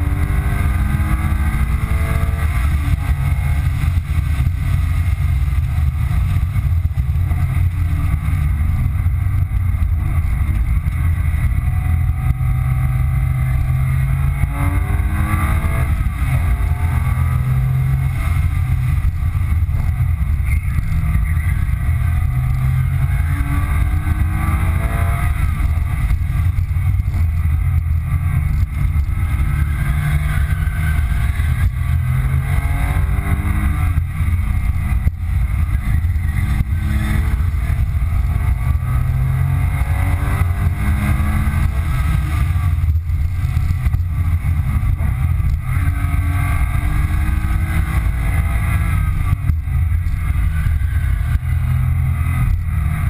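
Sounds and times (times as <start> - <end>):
car engine accelerating: 0.0 - 53.0
road and wind noise: 0.0 - 53.0.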